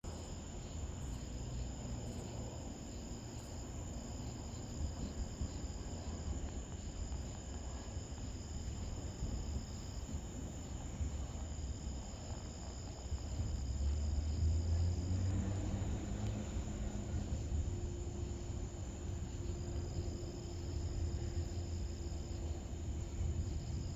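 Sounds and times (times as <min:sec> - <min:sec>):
crickets trilling: 0:00.0 - 0:23.9.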